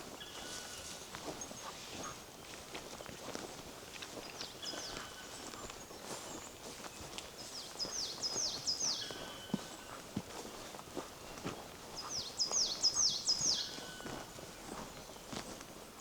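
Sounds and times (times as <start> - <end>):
footsteps on forest path: 0.0 - 16.0
songbirds chirping: 0.0 - 16.0.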